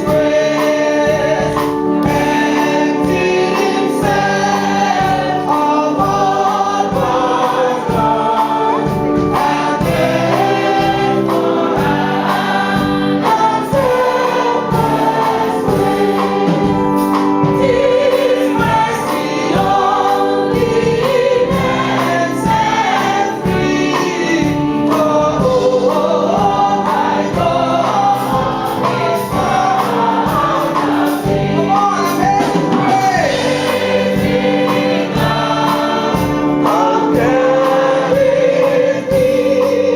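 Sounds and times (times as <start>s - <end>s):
choir singing gospel music: 0.0s - 39.9s
steady beat: 0.0s - 39.9s.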